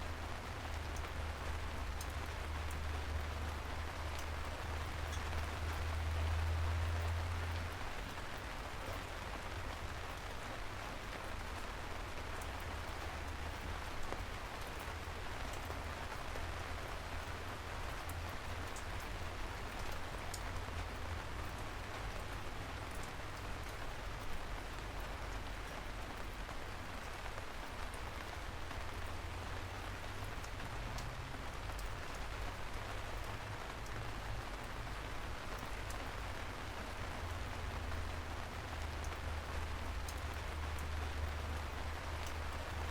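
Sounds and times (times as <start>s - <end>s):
rain falling: 0.0s - 42.9s
raindrops ticking: 0.0s - 42.9s.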